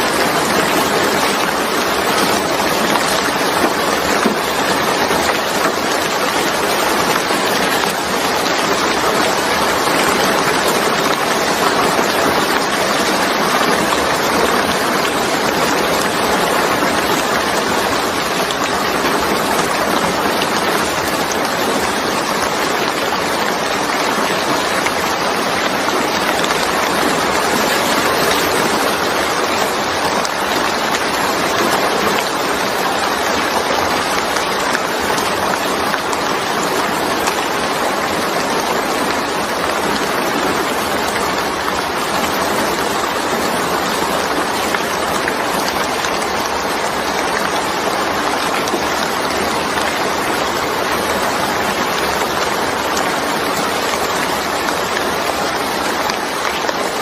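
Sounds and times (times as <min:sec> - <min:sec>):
steady dense rainfall: 0:00.0 - 0:57.0.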